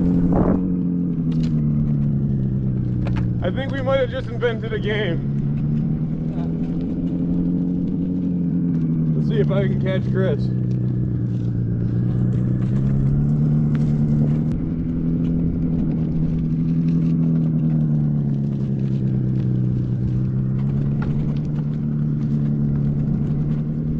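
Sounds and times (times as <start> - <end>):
simulated engine sound from speaker: 0.0 - 23.9.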